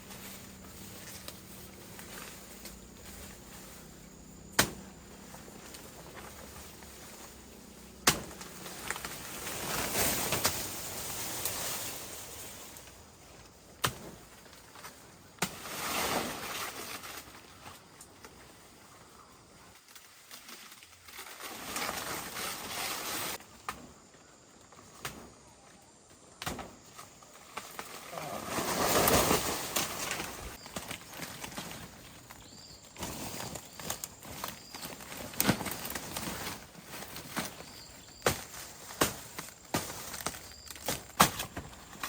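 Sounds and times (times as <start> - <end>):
rustling noise: 0.0 - 4.3, 5.0 - 23.5, 27.4 - 42.0.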